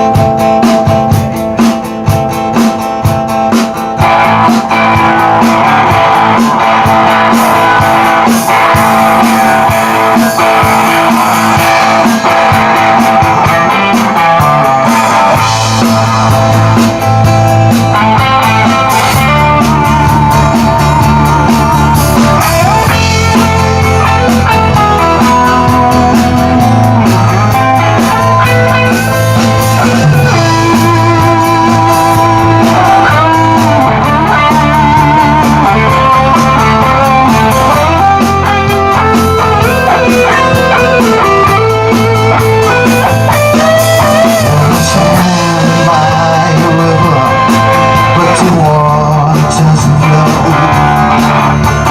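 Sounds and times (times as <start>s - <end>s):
bass guitar: 0.0s - 51.9s
drums: 0.0s - 51.9s
electric guitar lead: 0.0s - 51.9s.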